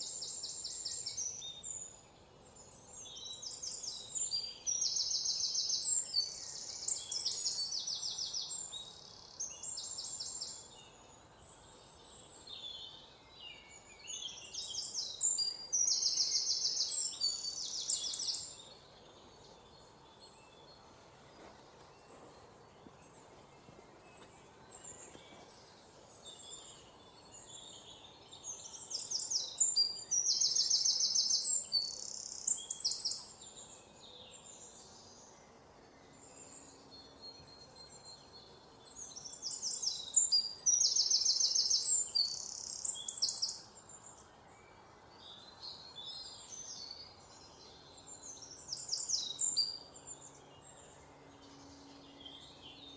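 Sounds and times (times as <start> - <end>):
faint steady background hiss: 0.0 - 52.9
high-pitched trilled birdsong: 0.0 - 52.9
songbirds chirping: 0.0 - 52.9.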